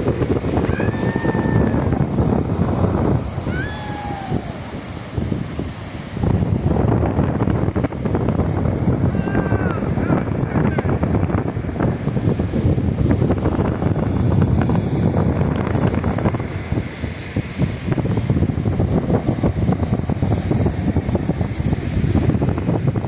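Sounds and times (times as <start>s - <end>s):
lake surf: 0.0s - 23.0s
wind buffeting microphone: 0.0s - 23.0s.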